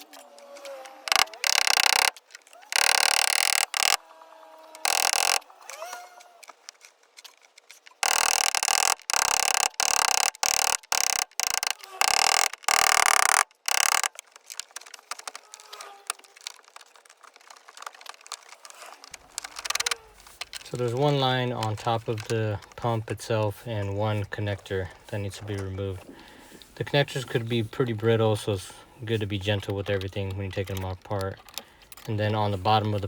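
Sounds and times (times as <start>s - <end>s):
faint handling noise: 4.8s - 33.0s.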